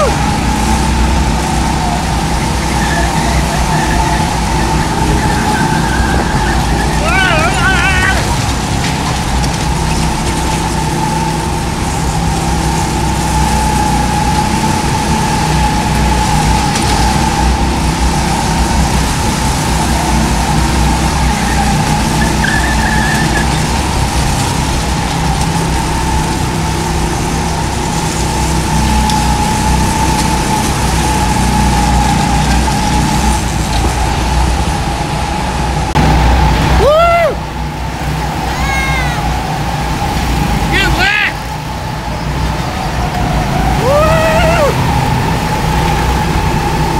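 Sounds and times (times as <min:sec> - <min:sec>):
go-kart motor hum: 0:00.0 - 0:46.9
wind and track rumble: 0:00.0 - 0:46.9.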